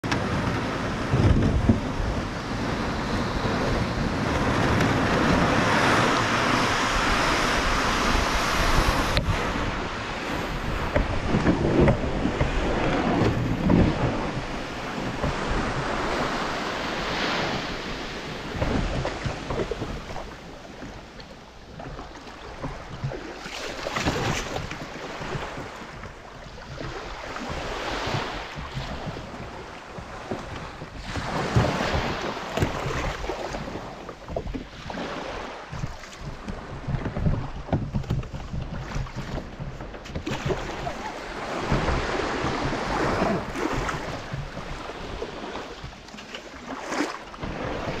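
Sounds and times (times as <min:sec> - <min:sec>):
small waves washing ashore: 0:00.0 - 0:48.0
wind on microphone: 0:00.0 - 0:48.0.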